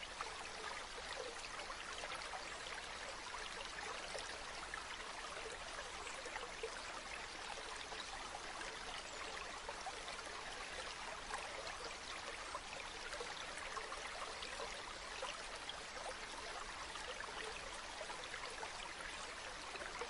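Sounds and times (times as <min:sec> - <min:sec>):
stream babbling over rocks: 0:00.0 - 0:20.0.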